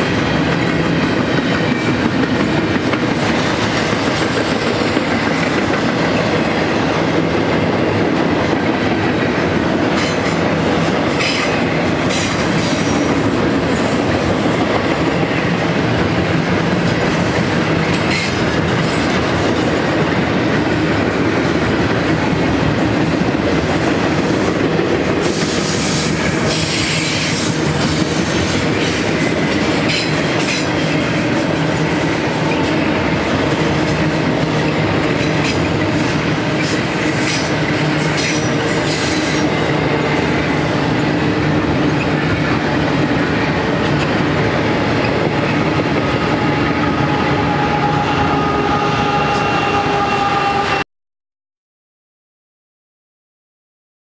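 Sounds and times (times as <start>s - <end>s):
train wheels rumbling on rail: 0.0s - 50.8s.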